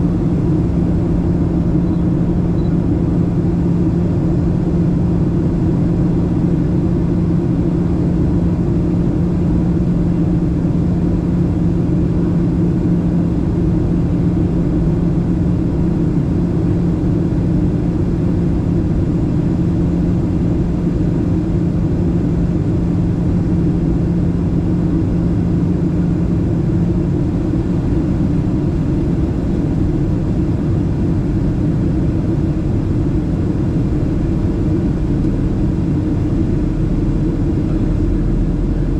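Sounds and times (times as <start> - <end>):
airliner cabin rumble: 0.0 - 38.9
steady low hum: 0.0 - 38.9.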